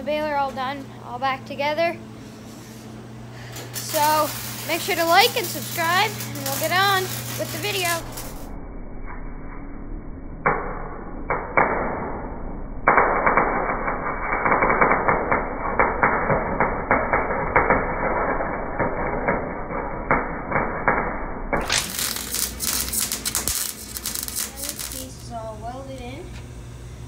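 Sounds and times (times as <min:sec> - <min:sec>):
arc welding crackling: 0:00.0 - 0:09.2, 0:12.8 - 0:27.0.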